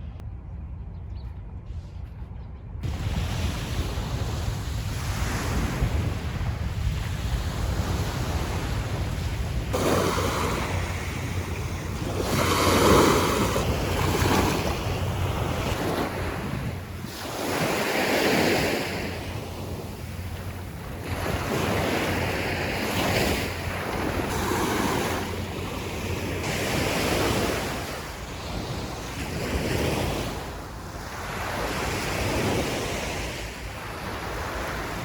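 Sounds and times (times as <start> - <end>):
wind rumbling on microphone: 0.0 - 35.0
sea waves breaking: 2.8 - 35.0.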